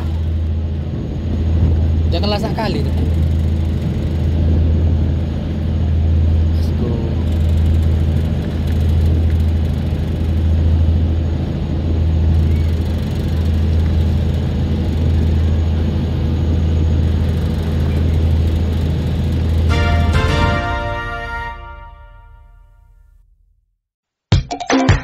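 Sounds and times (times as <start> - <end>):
ferry engine droning: 0.0 - 22.6.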